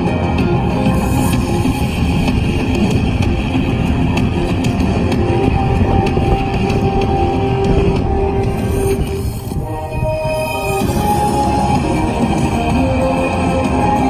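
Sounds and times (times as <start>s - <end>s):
loud music with drums: 0.0s - 14.0s.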